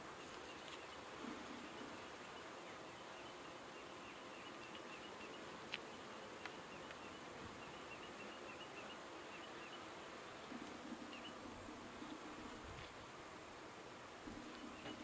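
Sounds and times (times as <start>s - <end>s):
bees buzzing faintly: 0.0s - 15.0s.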